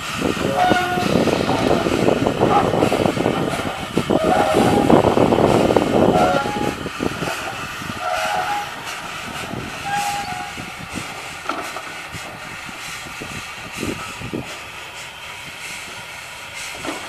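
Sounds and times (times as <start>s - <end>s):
steam engine hiss and clatter: 0.0s - 17.0s.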